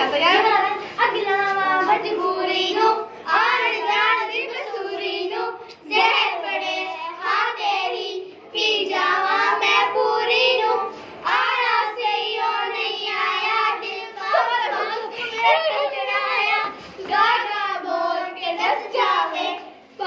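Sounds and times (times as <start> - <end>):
girls singing together: 0.0 - 20.0.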